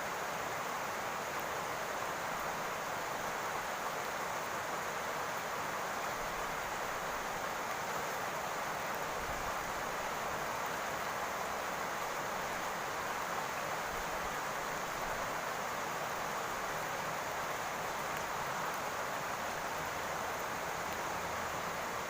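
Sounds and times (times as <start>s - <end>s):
rain falling on a roof: 0.0s - 22.0s.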